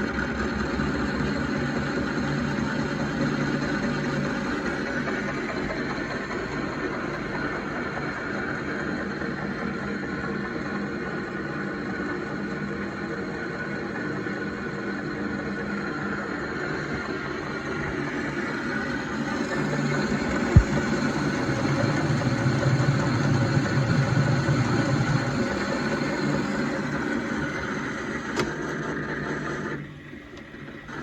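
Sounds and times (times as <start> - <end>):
metal lathe motor and gear whine: 0.0 - 31.0.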